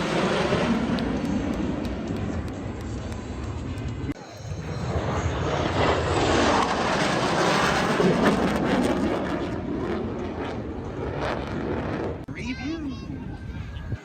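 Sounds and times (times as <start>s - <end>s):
fighter jet flyby: 0.0s - 14.0s.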